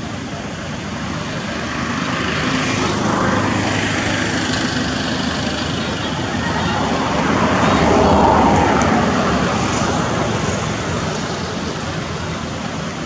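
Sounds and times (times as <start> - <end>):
broadband noise: 0.0 - 13.0
distant engine drone: 0.0 - 13.0.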